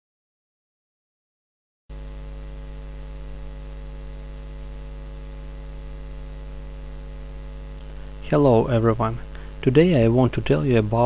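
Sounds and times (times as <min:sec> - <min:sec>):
electrical mains hum: 0:01.9 - 0:11.0.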